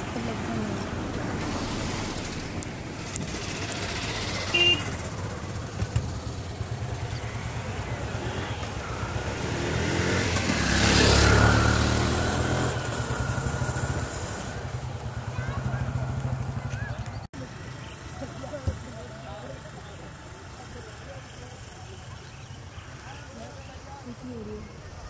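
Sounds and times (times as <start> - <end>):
vehicle engine rumble passing: 0.0 - 23.2.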